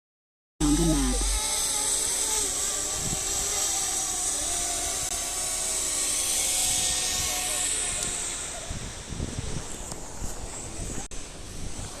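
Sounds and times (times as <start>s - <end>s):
drone propellers whirring: 0.6s - 11.6s.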